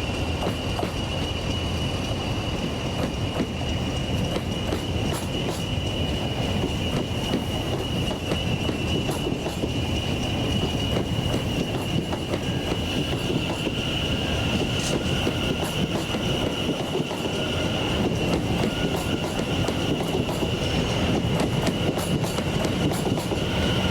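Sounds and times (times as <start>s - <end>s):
high wheel squeal: 0.0s - 23.9s
train rumbling on rails: 0.0s - 23.9s.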